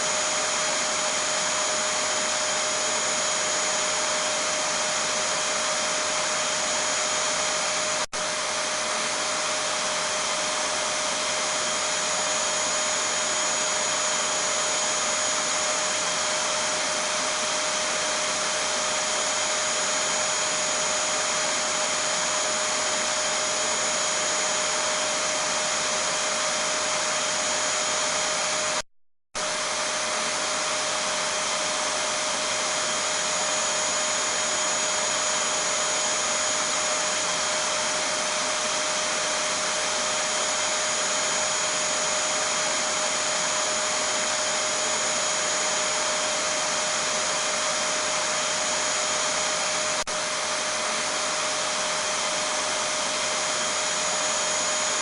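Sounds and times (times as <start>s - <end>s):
vacuum cleaner motor running: 0.0s - 28.8s, 29.4s - 55.0s.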